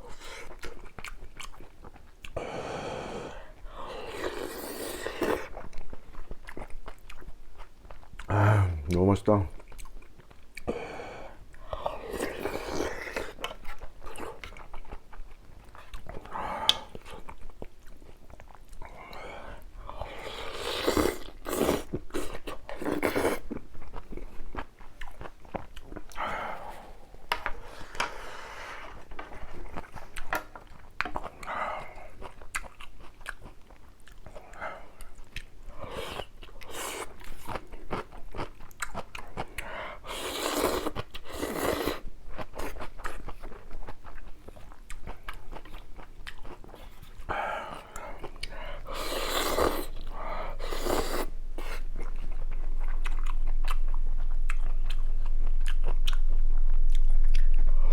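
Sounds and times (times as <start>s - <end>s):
chewing and crunchy bites: 0.0s - 2.4s, 3.8s - 10.7s, 11.5s - 28.2s, 28.8s - 57.9s.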